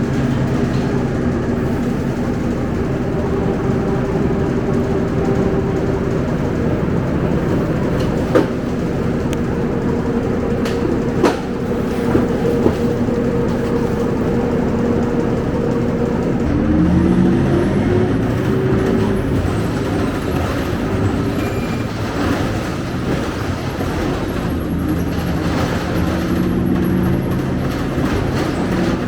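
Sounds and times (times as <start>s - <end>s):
bus engine drone: 0.0s - 29.0s.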